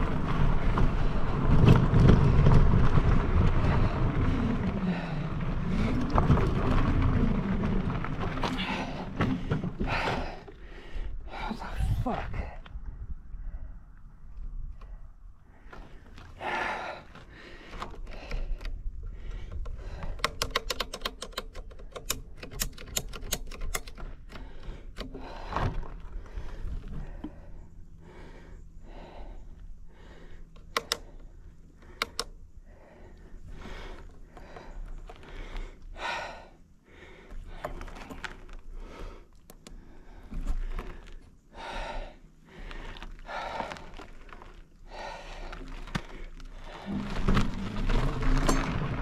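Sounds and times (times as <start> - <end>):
bike clicks and rattles: 0.0 - 11.2, 14.0 - 36.4, 37.0 - 49.0
rumble of tyres on dirt: 0.0 - 49.0.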